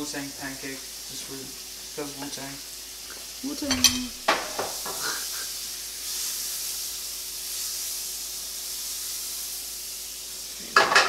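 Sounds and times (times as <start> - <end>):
batter sizzling in frying pan: 0.0 - 11.0.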